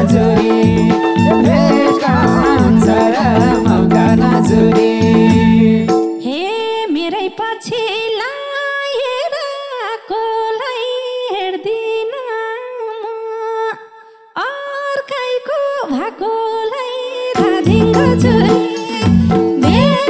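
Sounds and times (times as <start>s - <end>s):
woman singing unaccompanied: 0.0s - 13.8s, 14.4s - 20.0s.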